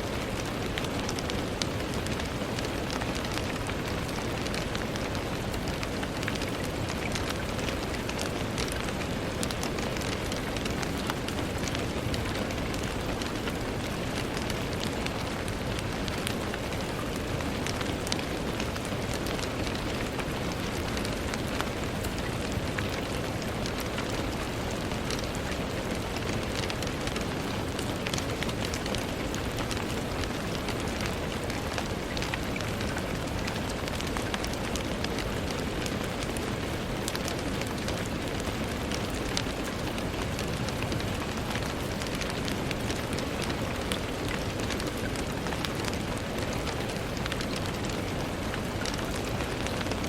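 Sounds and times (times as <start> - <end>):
rain pattering on a window: 0.0 - 50.0.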